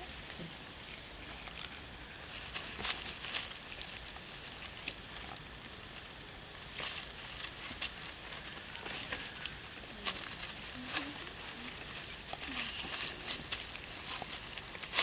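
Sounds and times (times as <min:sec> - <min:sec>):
dry leaves crackling and rustling: 0:00.0 - 0:15.0
steady outdoor hiss: 0:00.0 - 0:15.0.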